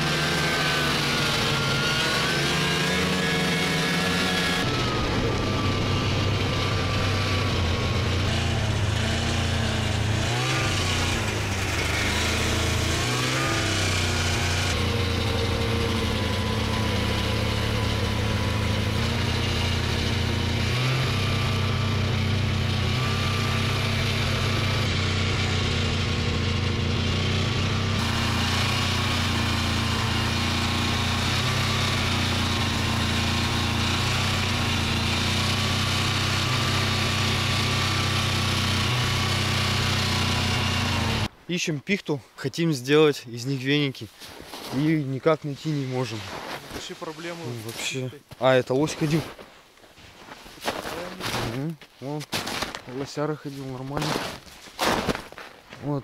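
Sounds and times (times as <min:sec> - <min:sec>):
snowmobile engine running: 0:00.0 - 0:41.3, 0:43.5 - 0:49.3, 0:52.8 - 0:55.3.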